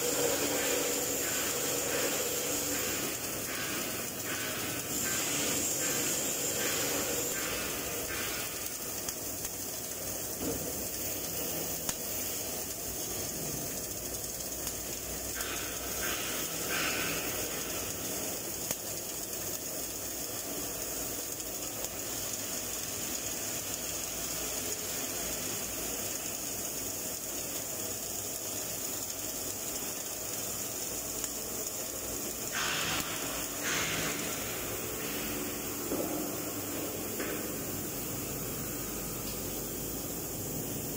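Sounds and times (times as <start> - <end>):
arc welding hissing crackle: 0.0 - 40.9.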